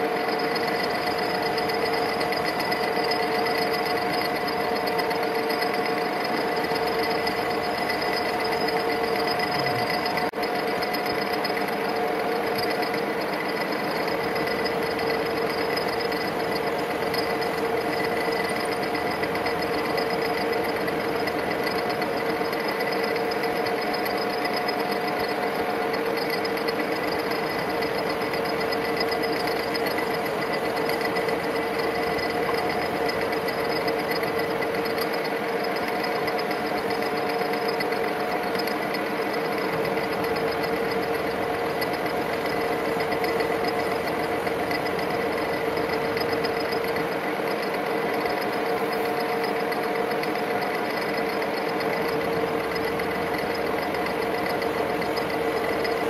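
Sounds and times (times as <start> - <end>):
metal lathe cutting: 0.0 - 56.0.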